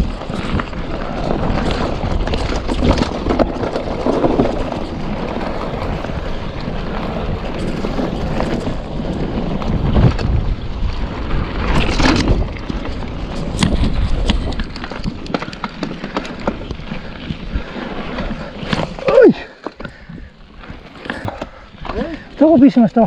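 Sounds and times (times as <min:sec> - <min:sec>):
wind on microphone: 0:00.0 - 0:22.4
bicycle tyres on stony ground: 0:00.0 - 0:23.0
bike clicking and rattling: 0:00.0 - 0:23.0.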